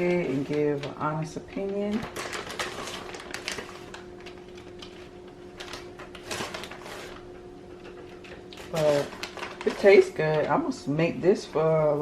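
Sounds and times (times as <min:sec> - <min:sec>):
food rustling on counter: 0:00.0 - 0:10.7
low electrical hum: 0:00.0 - 0:12.0.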